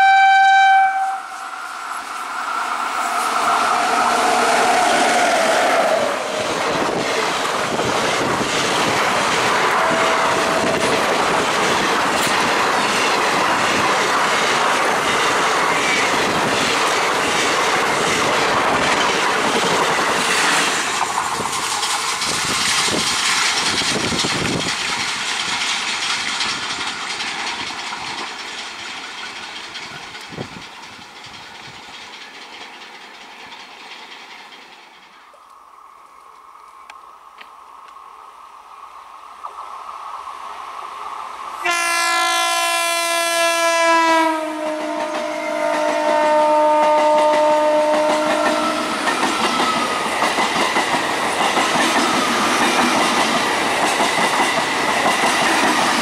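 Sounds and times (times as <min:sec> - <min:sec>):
train wheels clattering: 0:01.3 - 0:35.4, 0:43.8 - 0:56.0.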